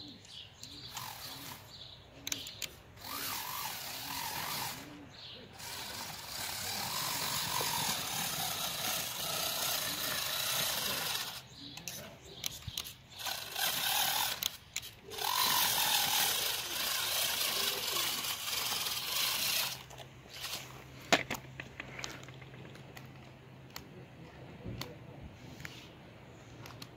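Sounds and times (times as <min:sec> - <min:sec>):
electric motor and gears whining: 0:00.6 - 0:22.3.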